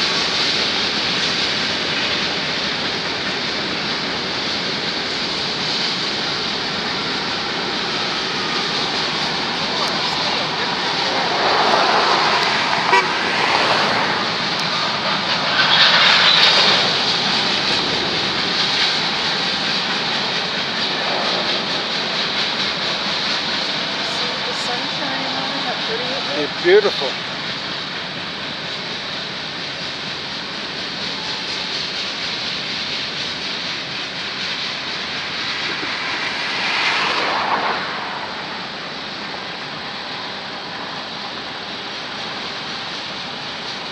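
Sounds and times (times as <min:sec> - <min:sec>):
freight train wheels on rail: 0:00.0 - 0:43.9.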